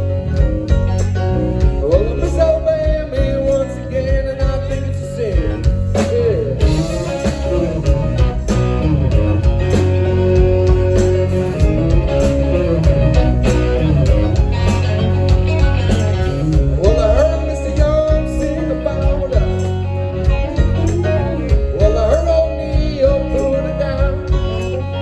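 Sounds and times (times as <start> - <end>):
drum strikes: 0.0 - 24.7
guitar melody: 0.0 - 25.0
live band playing: 0.0 - 25.0.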